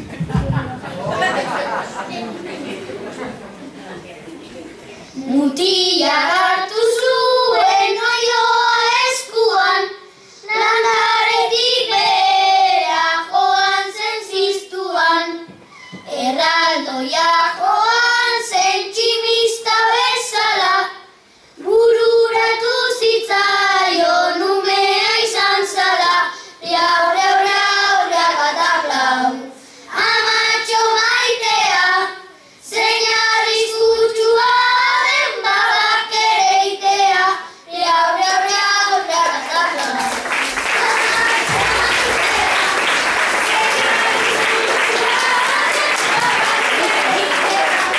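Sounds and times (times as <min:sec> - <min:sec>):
children singing unaccompanied: 0:05.1 - 0:47.9.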